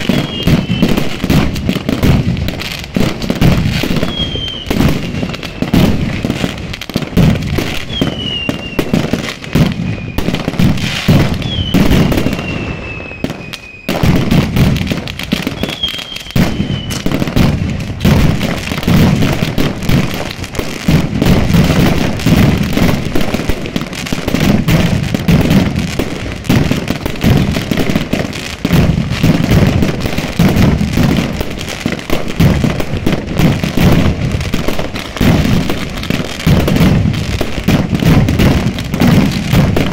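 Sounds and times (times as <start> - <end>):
firecrackers banging rapidly: 0.0 - 39.9
whistling fireworks: 0.0 - 39.9.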